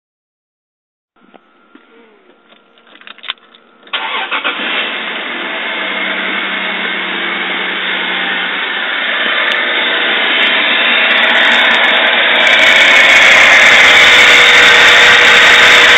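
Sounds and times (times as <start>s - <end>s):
car engine starting and idling: 2.4s - 15.9s.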